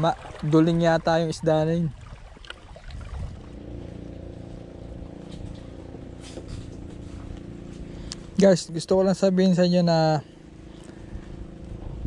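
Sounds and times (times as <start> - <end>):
distant motorboat engine hum: 0.0 - 12.0.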